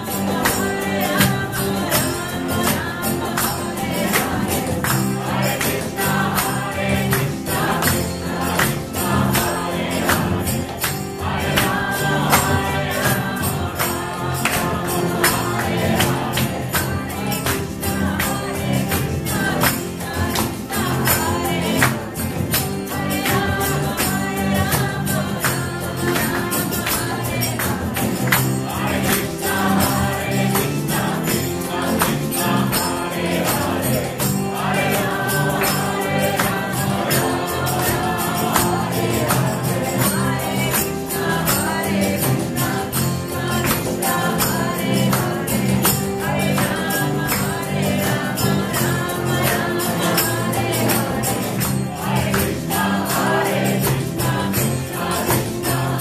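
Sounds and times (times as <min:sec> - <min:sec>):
fast percussion beat: 0:00.0 - 0:56.0
group mantra singing: 0:00.0 - 0:56.0.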